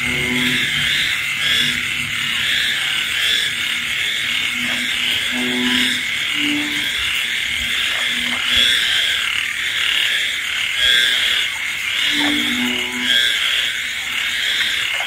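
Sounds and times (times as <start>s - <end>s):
insects buzzing: 0.0s - 15.0s
low frog calls: 0.0s - 15.0s
rain: 0.0s - 15.0s.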